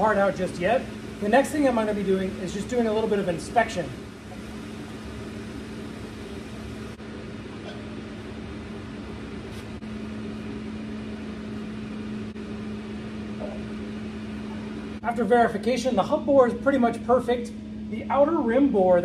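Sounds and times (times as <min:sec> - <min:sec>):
milling machine humming: 0:00.0 - 0:19.0.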